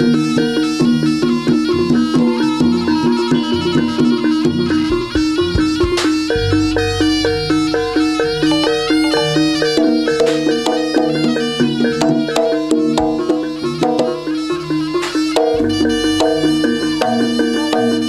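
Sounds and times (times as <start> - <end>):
drums: 0.0 - 18.0
gongs: 0.0 - 18.0
metallophones: 0.0 - 18.0
wind instrument melody: 0.0 - 18.0.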